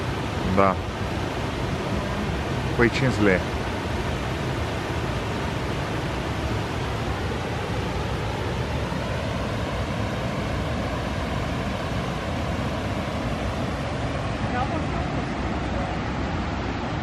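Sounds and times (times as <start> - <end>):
water rushing into spillway shaft: 0.0 - 17.0.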